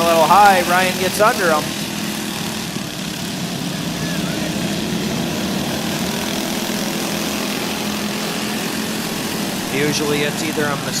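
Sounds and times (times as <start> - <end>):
go-kart engines droning: 0.0 - 11.0.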